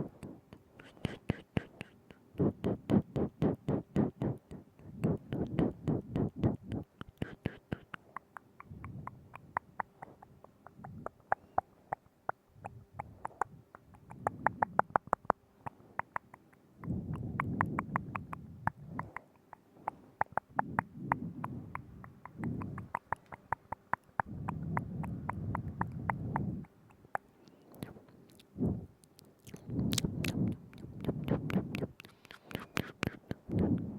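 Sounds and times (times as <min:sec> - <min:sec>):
tongue clicks and lip smacks: 0:00.0 - 0:33.9.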